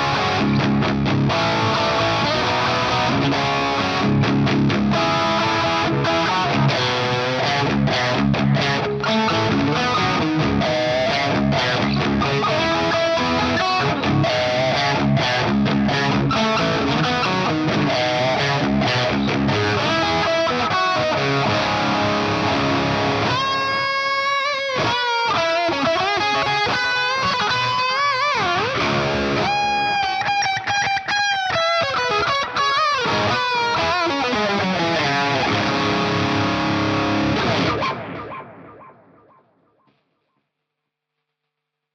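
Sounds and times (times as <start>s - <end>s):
electric guitar playing: 0.0s - 39.5s.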